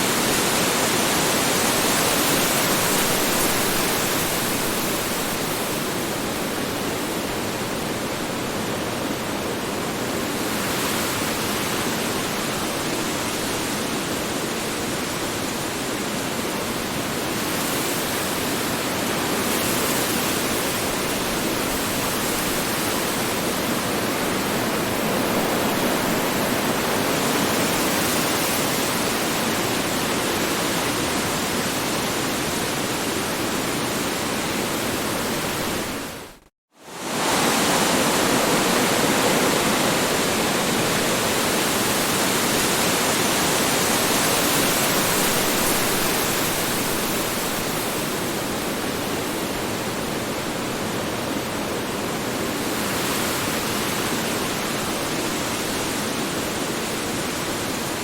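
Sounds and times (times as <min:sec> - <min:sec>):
strong wind blowing in gusts: 0:00.0 - 0:58.0.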